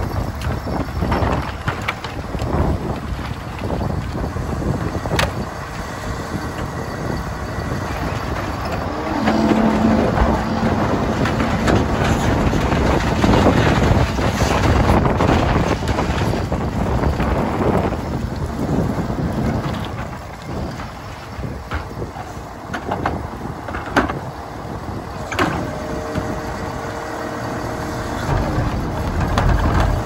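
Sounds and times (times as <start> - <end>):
garbage truck diesel engine running: 0.0 - 30.0
hydraulic cart tippers dumping carts: 0.0 - 30.0.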